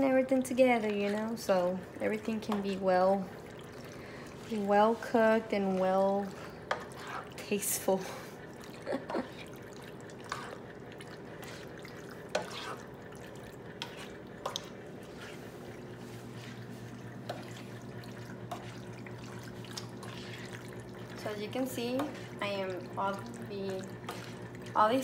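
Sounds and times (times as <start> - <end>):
low steady hum: 0.0 - 25.0
wet squelching of stirred pasta: 0.0 - 25.0.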